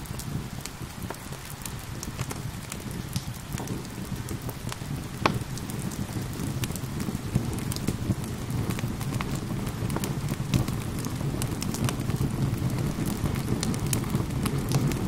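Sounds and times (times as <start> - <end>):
steady rain falling: 0.0 - 15.0
wood fire crackling: 0.0 - 15.0.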